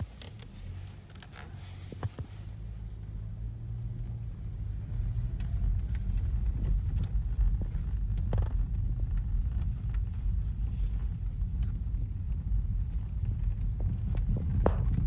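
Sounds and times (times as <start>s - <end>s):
car low rumble: 0.0s - 15.0s.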